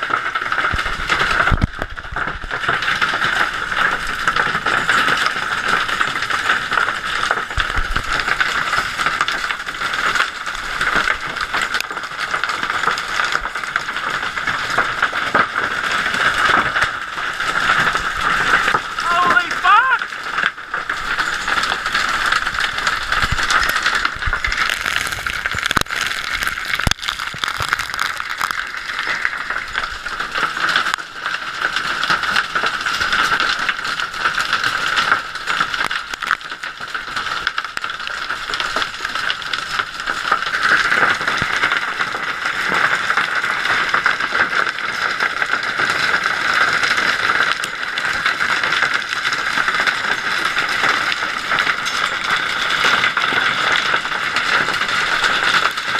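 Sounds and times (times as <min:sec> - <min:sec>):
hailstones pelting hard surfaces: 0:00.0 - 0:55.9.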